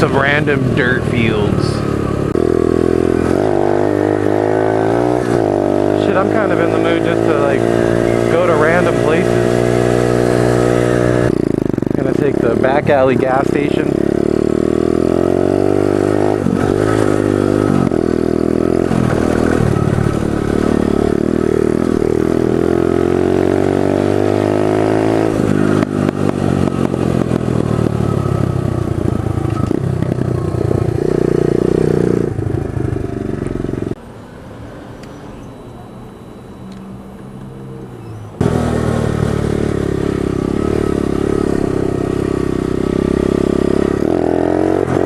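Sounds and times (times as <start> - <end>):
small motorbike engine revving: 0.0 - 34.0, 36.9 - 45.0.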